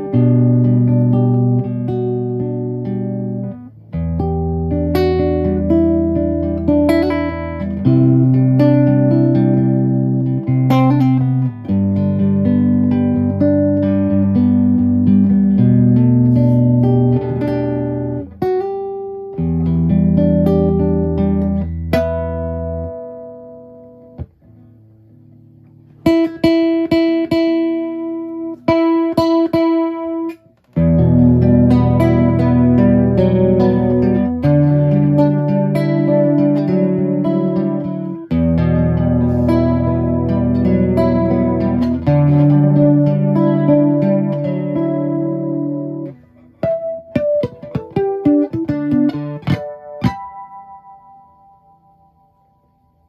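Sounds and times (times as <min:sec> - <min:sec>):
electric guitar with chorus: 0:00.0 - 0:53.0.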